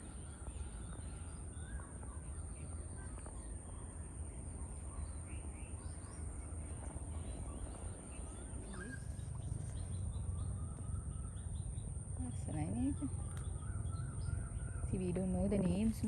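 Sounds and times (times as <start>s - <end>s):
birds chirping: 0.0s - 16.0s
low steady rumble: 0.0s - 16.0s.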